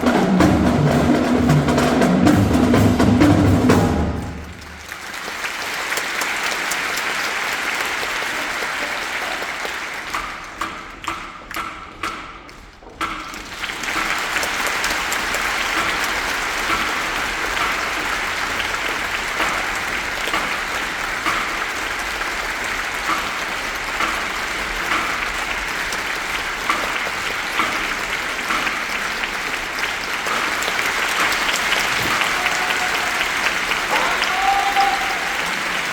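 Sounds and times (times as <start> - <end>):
audience applauding: 1.7 - 11.1, 13.2 - 35.9.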